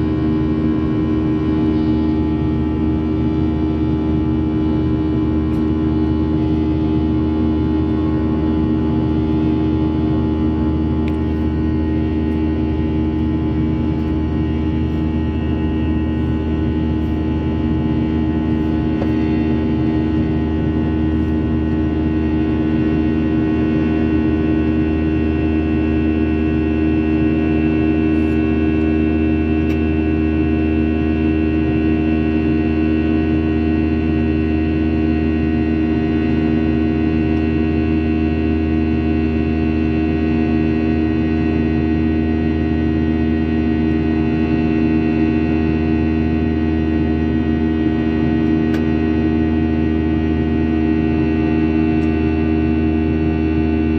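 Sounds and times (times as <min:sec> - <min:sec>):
jet engine cabin drone: 0:00.0 - 0:53.9.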